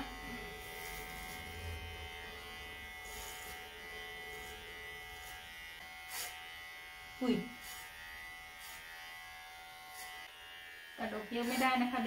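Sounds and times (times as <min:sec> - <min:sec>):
electric clippers buzzing: 0:00.0 - 0:12.0
clipper blade rasping through fur: 0:00.1 - 0:12.0.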